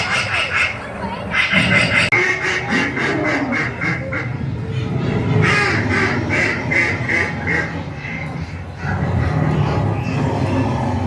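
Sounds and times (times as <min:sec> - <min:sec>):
crowd murmur: 0:00.0 - 0:11.0
recorded bird calls: 0:00.0 - 0:11.0.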